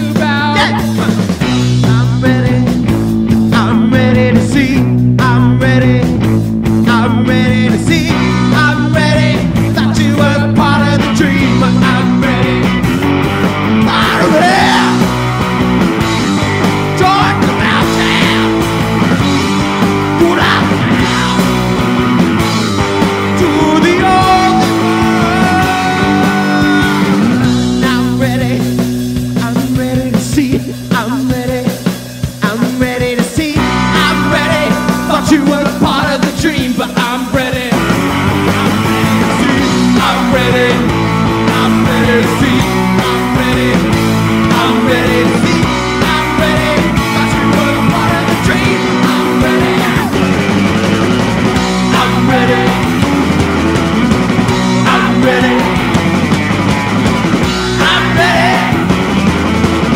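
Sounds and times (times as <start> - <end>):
rock music with guitar and singing: 0.0 - 59.9.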